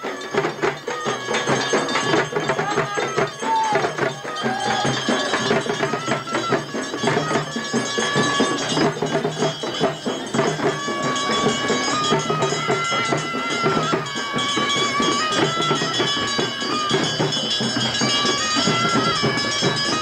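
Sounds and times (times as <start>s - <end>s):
drums beaten fast: 0.0s - 20.0s
reed wind instrument: 0.0s - 20.0s.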